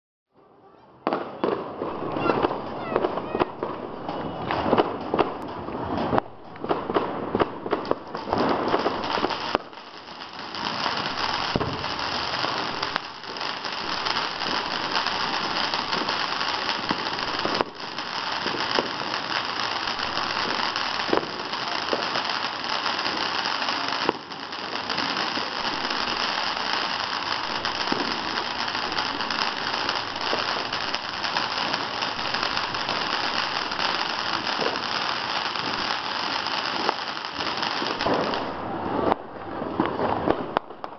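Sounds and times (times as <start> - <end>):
firework fountain hissing: 1.4 - 40.9.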